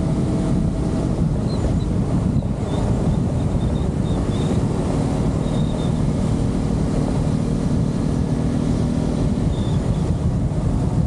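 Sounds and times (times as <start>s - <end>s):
motorcycle engine cruising: 0.0s - 11.0s
wind rush on microphone: 0.0s - 11.0s.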